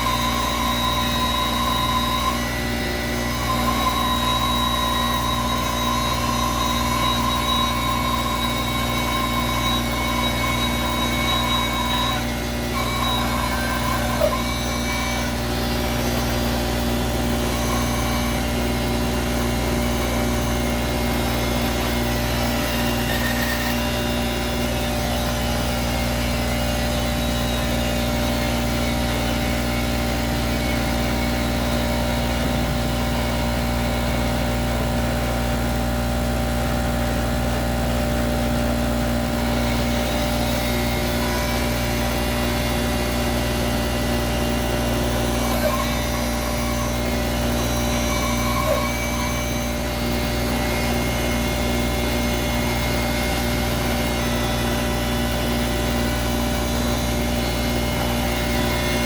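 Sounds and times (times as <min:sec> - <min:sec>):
bandsaw motor humming: 0:00.0 - 0:59.0.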